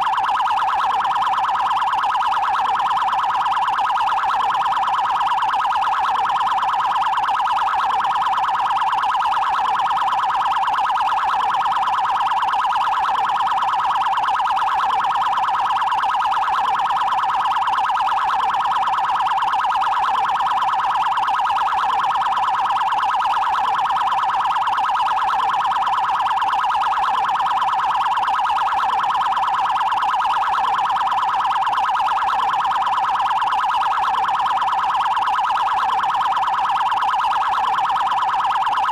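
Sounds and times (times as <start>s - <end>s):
fast pulsing police siren: 0.0s - 38.9s.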